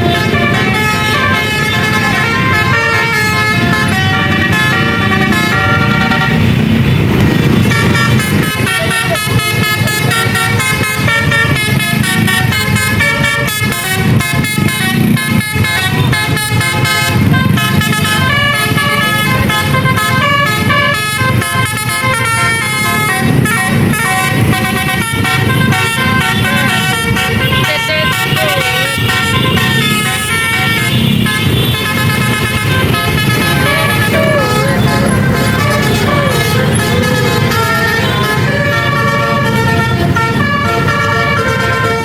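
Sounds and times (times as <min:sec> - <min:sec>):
bus engine rumble: 0:00.0 - 0:42.0
musical air horns playing tune: 0:00.0 - 0:42.0.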